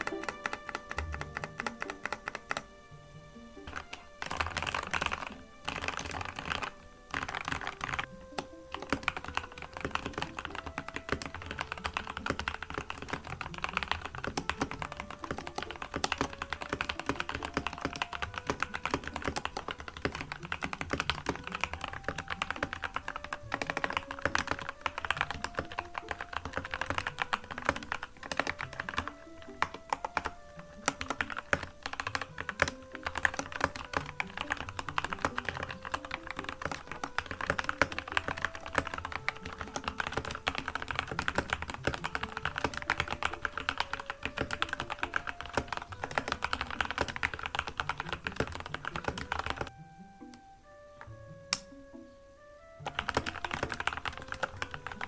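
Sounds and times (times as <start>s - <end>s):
mechanical keyboard typing: 0.0s - 2.8s, 3.6s - 49.8s, 52.8s - 55.0s.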